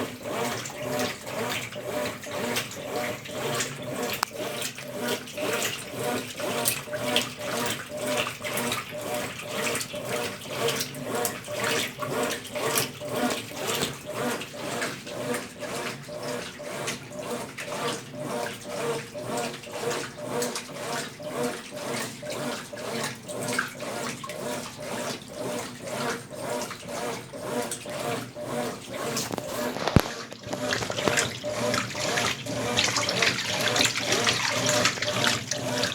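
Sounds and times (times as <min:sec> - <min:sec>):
washing machine sloshing: 0:00.0 - 0:35.9.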